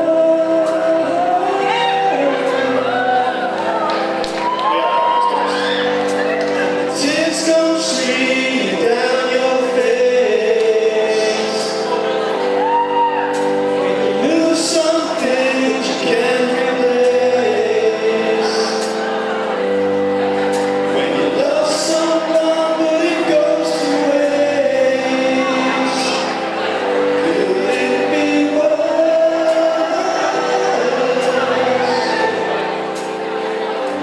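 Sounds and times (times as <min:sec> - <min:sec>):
live band sustained chords: 0:00.0 - 0:34.0
person singing: 0:00.0 - 0:34.0.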